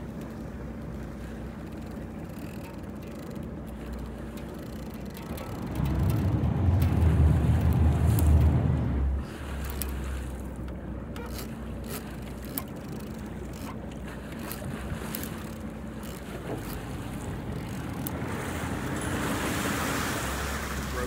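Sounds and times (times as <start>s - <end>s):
boat engine humming: 0.0s - 21.0s
water washing along hull: 0.0s - 21.0s.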